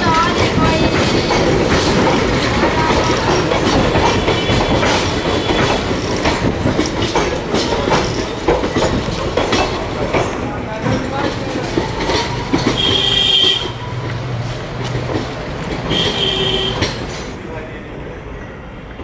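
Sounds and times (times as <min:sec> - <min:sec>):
train wheels clattering over rail joints: 0:00.0 - 0:17.5.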